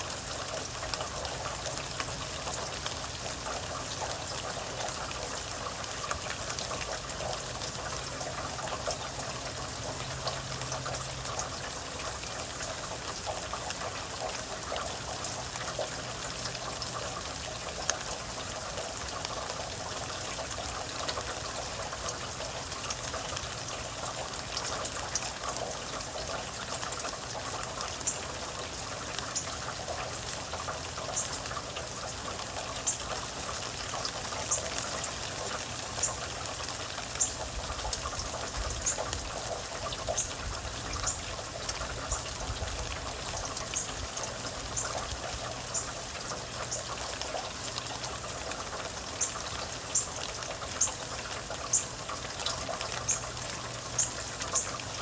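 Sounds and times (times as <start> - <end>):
close water drips: 0.0 - 55.0
steady rain falling: 0.0 - 55.0.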